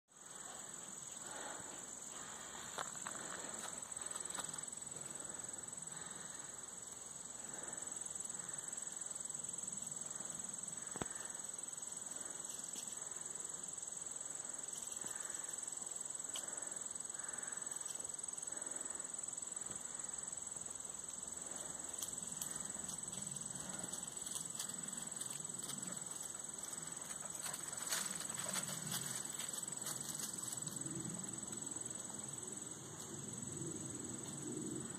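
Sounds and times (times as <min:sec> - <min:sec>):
insect chorus trilling: 0:00.1 - 0:34.9.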